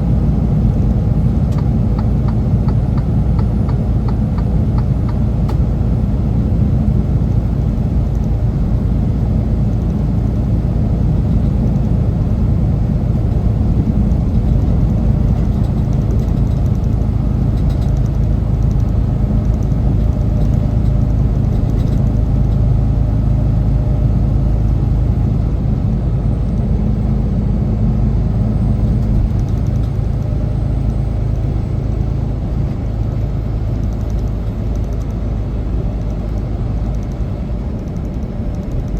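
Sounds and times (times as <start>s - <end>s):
road noise: 0.0s - 38.9s
truck diesel engine rumble: 0.0s - 38.9s.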